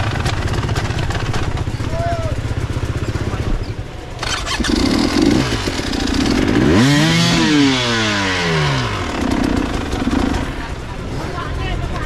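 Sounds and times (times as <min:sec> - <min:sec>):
motorcycle engine revving: 0:00.0 - 0:12.0
motorcycle engines rumbling: 0:00.0 - 0:12.0.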